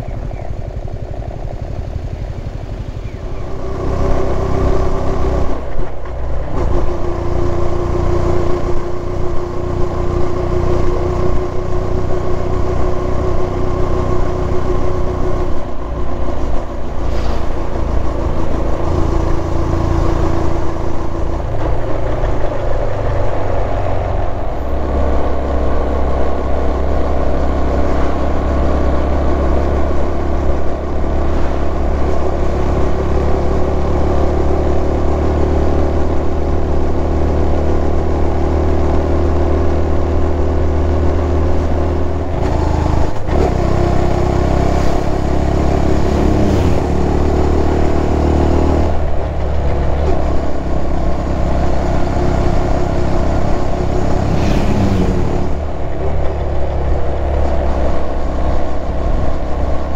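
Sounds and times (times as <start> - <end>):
motorcycle engine running: 0.0 - 59.9
road and air noise: 0.0 - 59.9.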